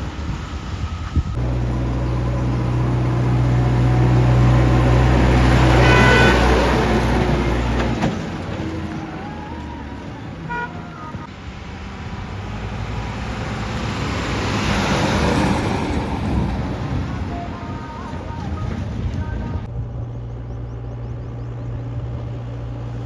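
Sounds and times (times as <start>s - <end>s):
heavy diesel engine under load: 0.0s - 23.0s.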